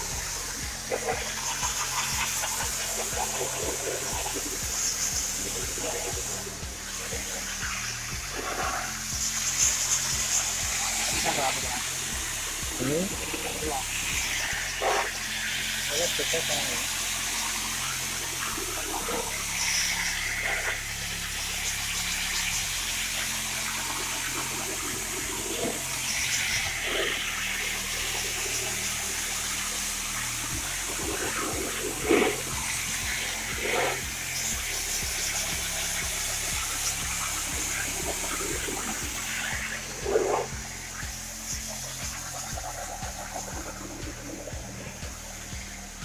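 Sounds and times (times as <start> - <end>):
low hum: 0.0 - 46.0
pressure washer water spray hiss: 0.0 - 46.0
water splashes: 0.0 - 46.0.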